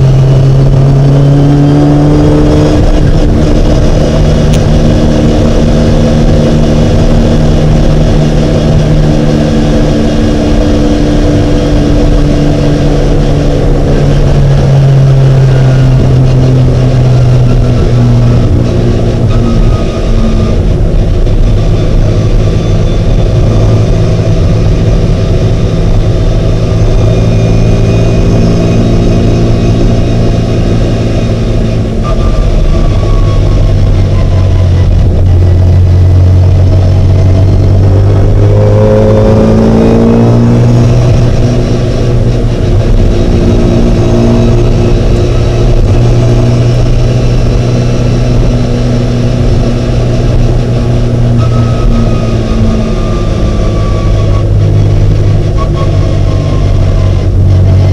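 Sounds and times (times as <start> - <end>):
car engine revving hard: 0.0 - 57.9.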